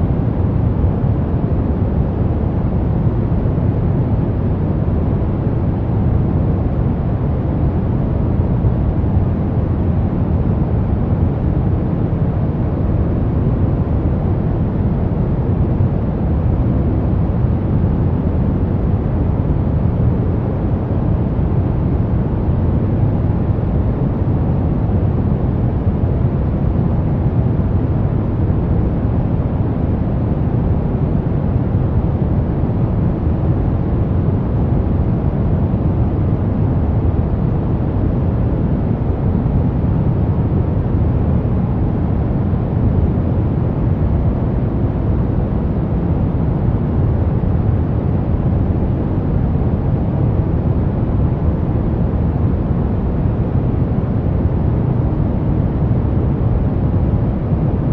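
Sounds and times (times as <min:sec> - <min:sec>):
brown noise rumbling hiss: 0:00.0 - 0:57.9.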